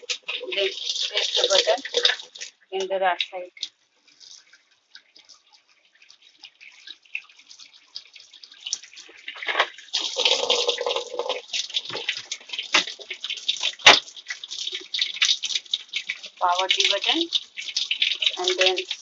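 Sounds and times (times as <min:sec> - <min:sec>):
water splashing into washing machine: 0:00.0 - 0:19.0.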